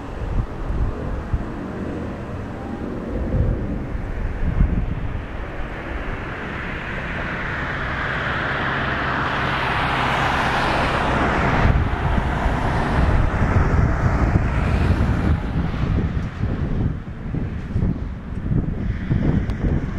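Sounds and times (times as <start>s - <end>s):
distant jet roar: 0.0s - 19.9s
wind buffeting microphone: 0.0s - 19.9s.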